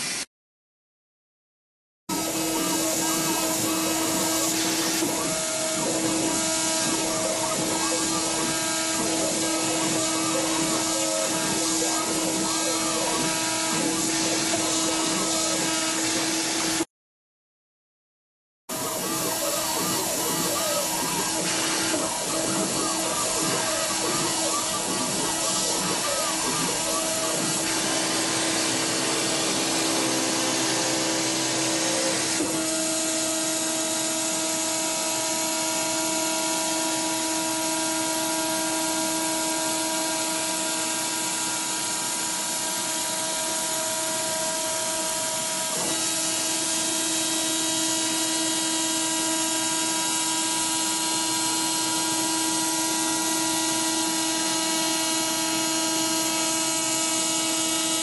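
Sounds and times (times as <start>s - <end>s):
engraving machine whining: 2.1s - 16.9s, 18.7s - 58.0s.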